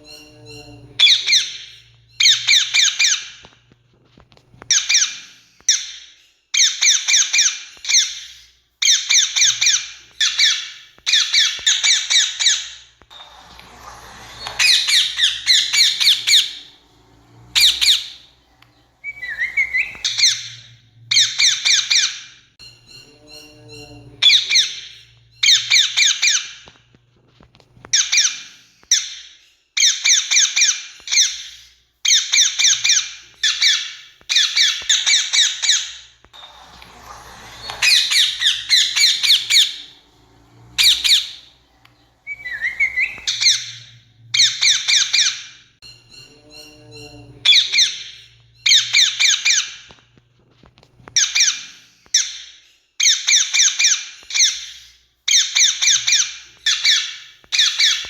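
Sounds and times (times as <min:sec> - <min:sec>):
parakeet screeching: 0:00.0 - 0:03.5, 0:06.6 - 0:26.6, 0:29.8 - 0:50.0, 0:51.2 - 0:58.0.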